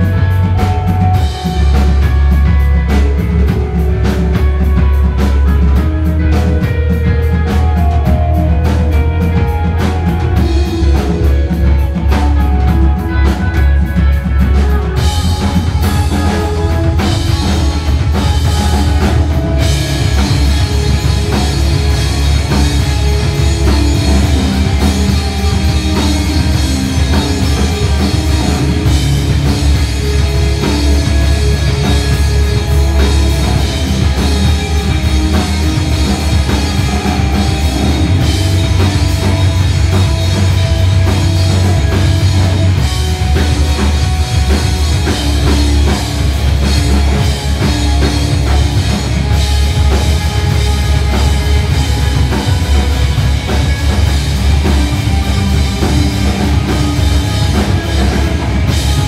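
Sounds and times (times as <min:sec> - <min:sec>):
heavy bass line: 0:00.0 - 0:59.0
rock band playing: 0:00.0 - 0:59.0.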